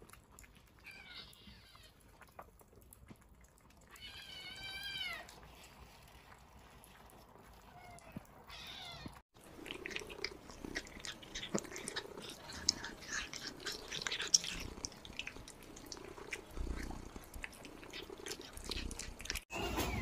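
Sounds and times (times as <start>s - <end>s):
kittens chewing wet food: 0.0s - 19.5s.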